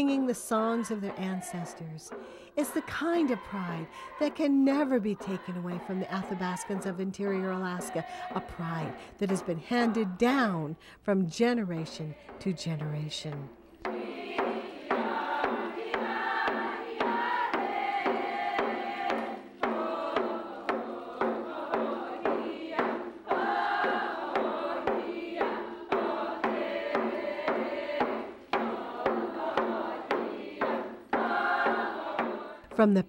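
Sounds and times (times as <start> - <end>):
group singing: 0.0 - 10.6, 11.6 - 32.8
frame drums beating: 0.0 - 33.0.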